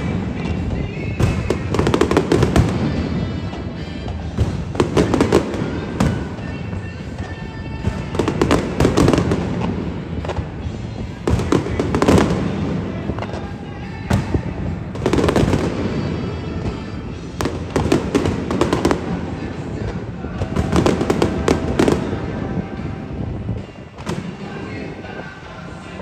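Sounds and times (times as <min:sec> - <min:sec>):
fireworks bursting and crackling: 0:00.0 - 0:26.0
music playing: 0:00.0 - 0:26.0.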